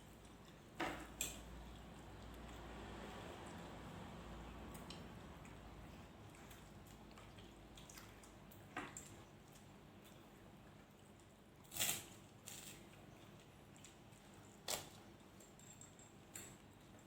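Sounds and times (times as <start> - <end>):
faint chewing of food: 0.0 - 17.0.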